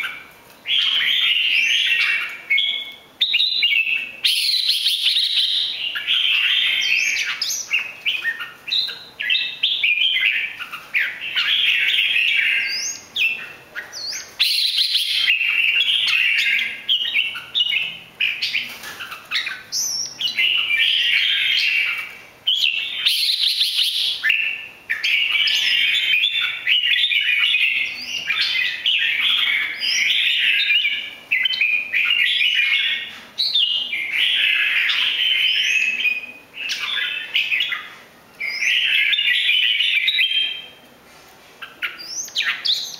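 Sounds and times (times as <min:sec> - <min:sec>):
bird singing warbled chirped notes: 0:00.0 - 0:40.8.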